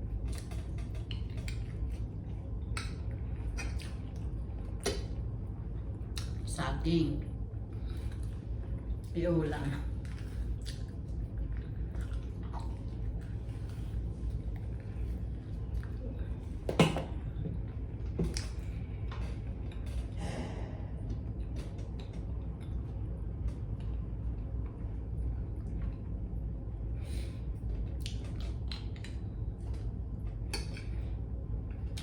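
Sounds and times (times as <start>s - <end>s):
chewing and handling food: 0.0s - 6.6s, 7.2s - 32.0s
steady low hum: 0.0s - 32.0s.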